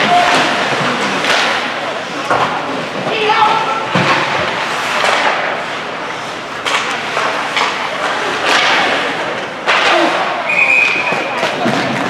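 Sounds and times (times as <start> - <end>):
hockey sticks and puck knocking: 0.0 - 12.0
skates scraping on ice: 0.0 - 12.0.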